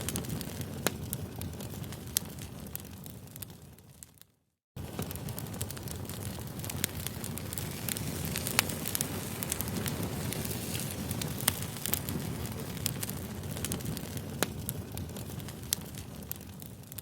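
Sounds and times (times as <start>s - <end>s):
campfire crackling: 0.0s - 4.2s, 4.8s - 17.0s.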